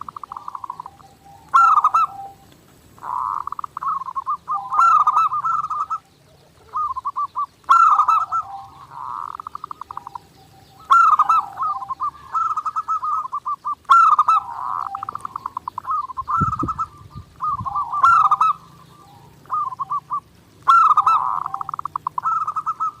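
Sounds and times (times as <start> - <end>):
zebra dove cooing: 0.0 - 23.0.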